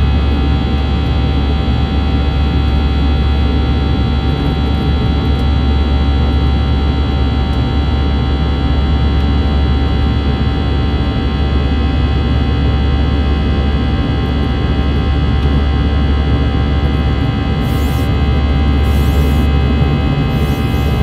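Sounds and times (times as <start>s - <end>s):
jet engine low rumble: 0.0s - 21.0s
whining fan tones: 0.0s - 21.0s.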